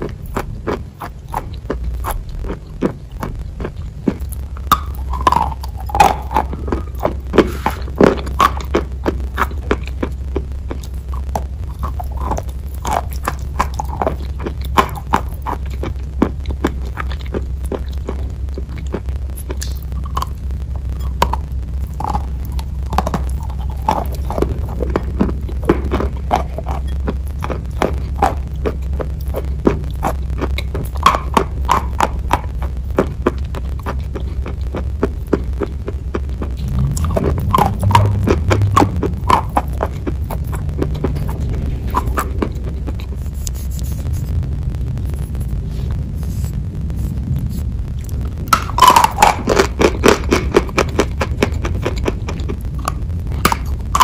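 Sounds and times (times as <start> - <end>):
crunching and chewing: 0.0 - 54.0
low hum: 0.0 - 54.0.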